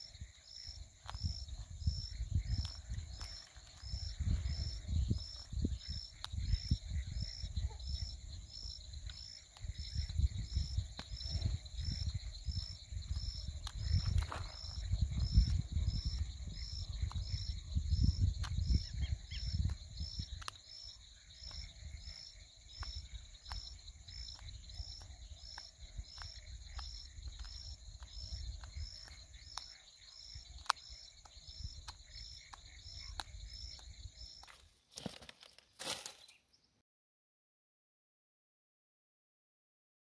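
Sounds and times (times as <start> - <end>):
insect chirping: 0.0 - 36.6.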